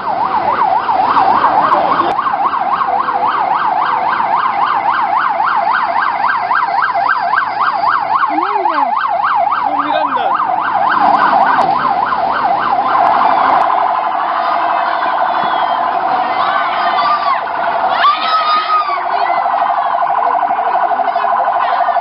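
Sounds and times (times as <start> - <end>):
police siren yelping: 0.0 - 22.0.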